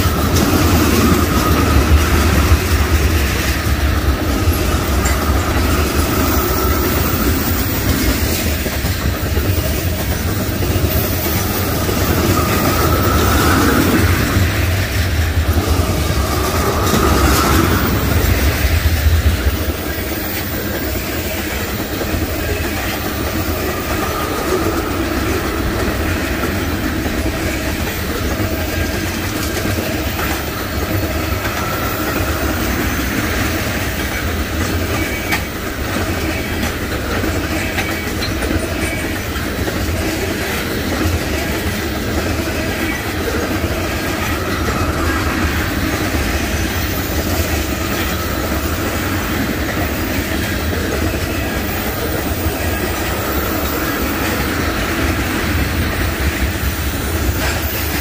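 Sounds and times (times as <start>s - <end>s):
wheels clacking over rail joints: 0.0s - 58.0s.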